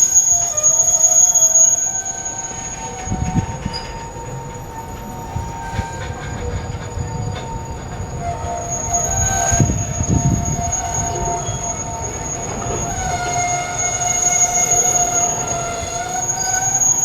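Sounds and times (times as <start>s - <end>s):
low rumble of train wagons: 0.0s - 17.0s
train wheels squealing: 0.0s - 17.0s.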